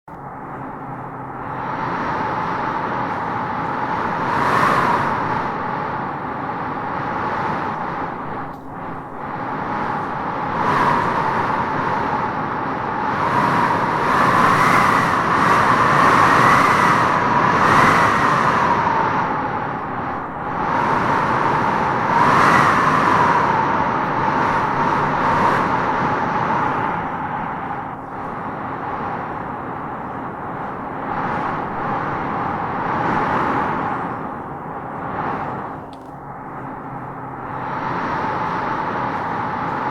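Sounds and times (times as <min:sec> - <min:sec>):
howling wind gusts: 0:00.1 - 0:39.9.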